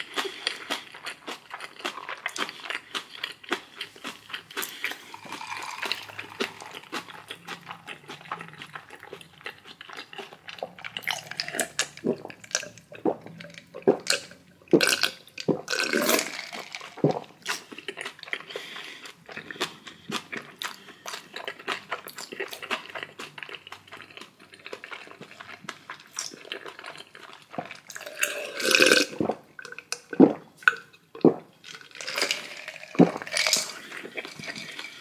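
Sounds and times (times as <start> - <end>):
person chewing food: 0.0 - 35.0
wet slurping: 3.6 - 24.2, 24.8 - 35.0.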